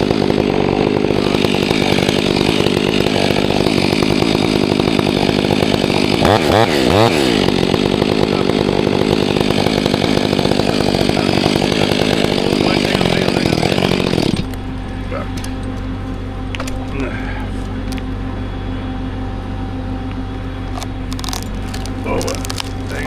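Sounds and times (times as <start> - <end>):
chainsaw engine running: 0.0 - 18.6, 20.4 - 23.0.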